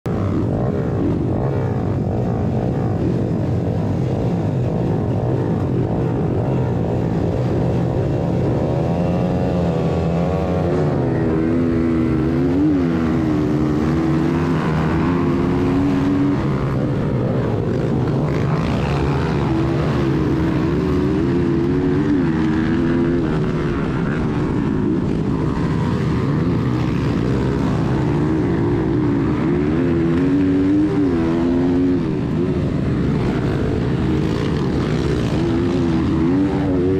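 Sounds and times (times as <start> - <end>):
motorcycle engine revving: 0.1 - 36.9
other minibike engines: 0.1 - 36.9.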